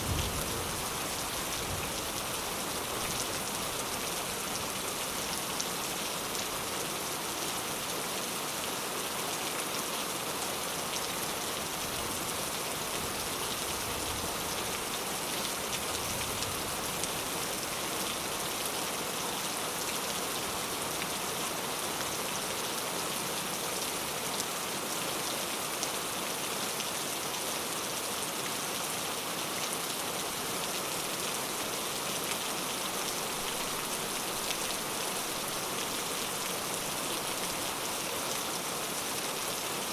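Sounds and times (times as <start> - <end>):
rain on a thatched roof: 0.0 - 39.9.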